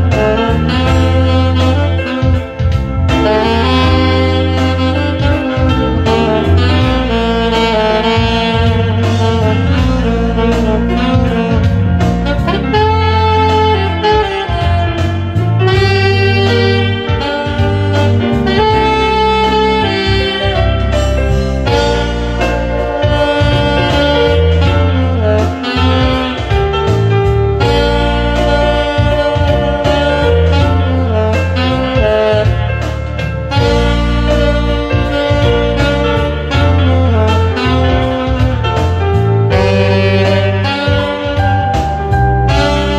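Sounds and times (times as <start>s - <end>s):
bass and steady beat: 0.0s - 42.9s
saxophone melody: 0.0s - 42.9s.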